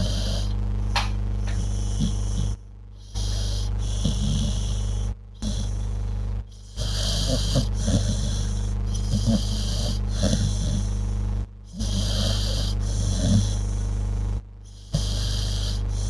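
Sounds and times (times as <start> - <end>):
dog snoring: 0.0 - 0.6, 1.4 - 14.0, 14.6 - 16.0
steady hum and hiss: 0.0 - 16.0.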